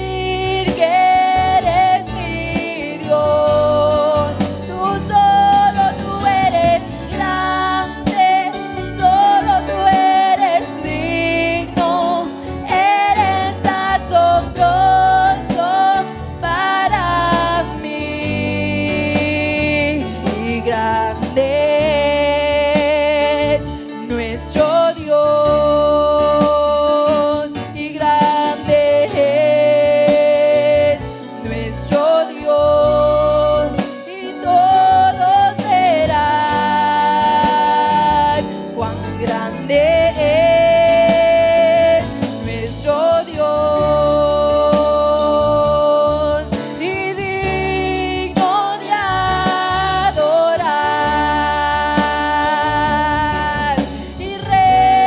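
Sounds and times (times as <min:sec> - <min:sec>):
keyboard and band accompaniment: 0:00.0 - 0:55.0.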